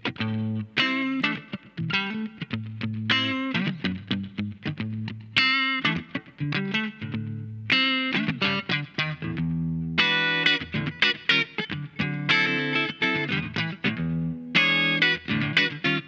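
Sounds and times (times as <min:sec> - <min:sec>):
electric guitar riff: 0:00.0 - 0:16.0.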